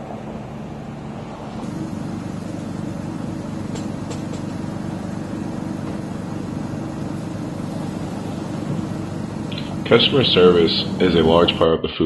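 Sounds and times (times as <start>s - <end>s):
engine idling hum: 0.0s - 11.6s.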